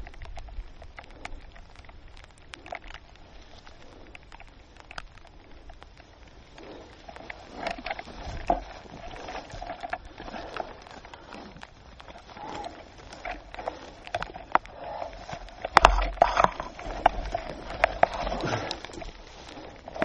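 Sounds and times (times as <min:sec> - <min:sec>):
rustling: 0:00.0 - 0:20.0.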